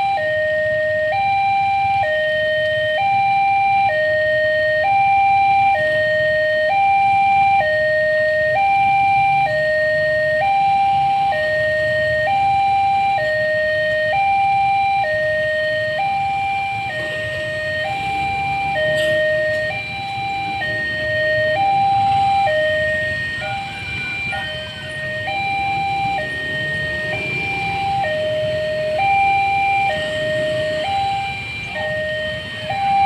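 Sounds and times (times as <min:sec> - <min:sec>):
two-tone electronic siren: 0:00.0 - 0:33.0.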